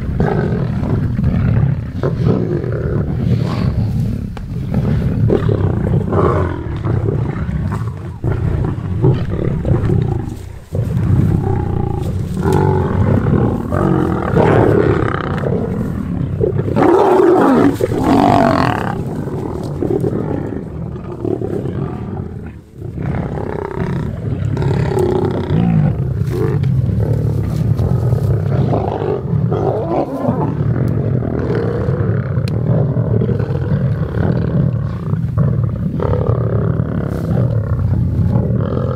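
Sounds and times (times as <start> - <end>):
lions growling and snarling: 0.0 - 38.9.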